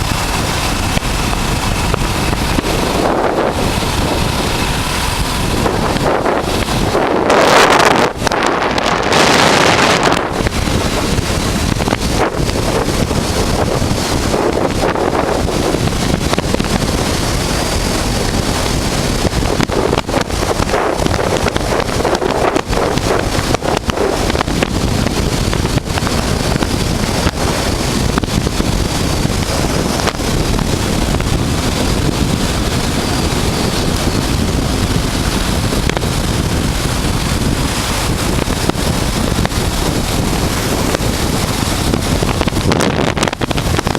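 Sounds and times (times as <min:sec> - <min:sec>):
wind roaring over microphone: 0:00.0 - 0:43.9.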